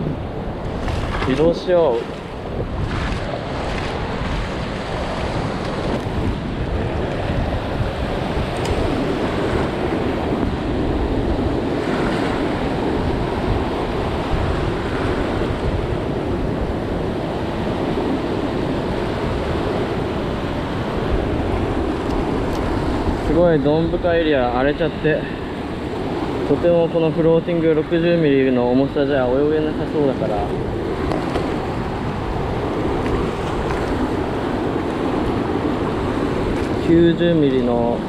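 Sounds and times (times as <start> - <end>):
waves surging and breaking: 0.0 - 38.0
wind buffeting the microphone: 0.0 - 38.0.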